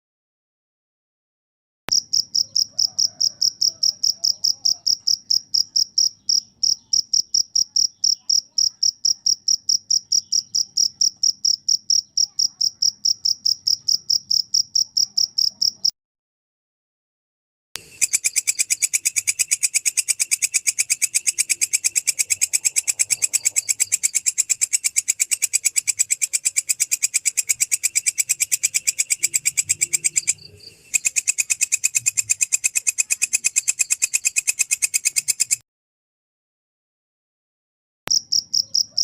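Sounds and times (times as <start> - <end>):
insect stridulating chirps: 1.9 - 15.9, 17.8 - 35.6.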